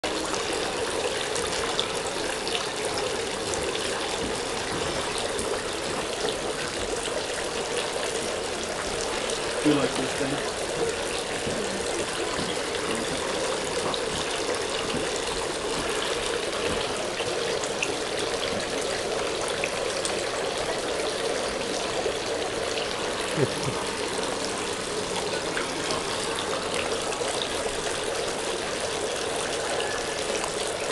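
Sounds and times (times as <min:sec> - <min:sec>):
fountain water splashing: 0:00.0 - 0:30.9.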